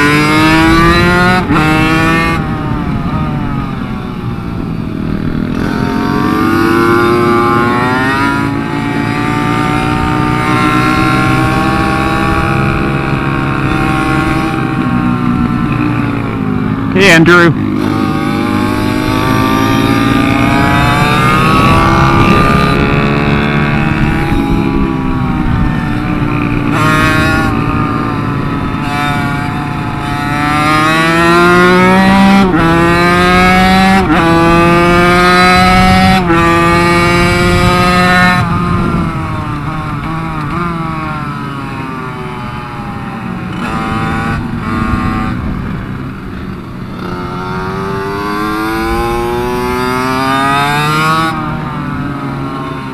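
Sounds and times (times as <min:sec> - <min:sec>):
minibike engine revving: 0:00.0 - 0:52.9.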